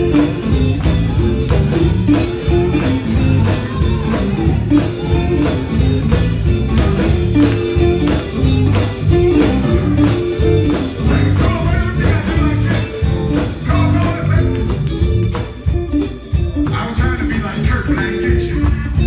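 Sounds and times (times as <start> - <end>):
bass guitar: 0.0 - 19.0
drums playing steady beat: 0.0 - 19.0
electric guitar: 0.0 - 19.0.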